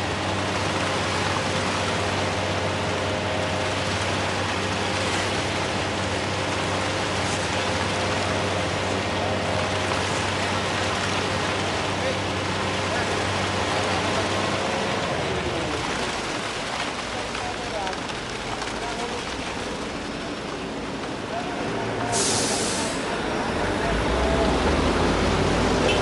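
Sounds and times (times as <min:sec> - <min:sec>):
continuous broad hiss: 0:00.0 - 0:23.9
heavy machinery engine running: 0:00.0 - 0:26.0.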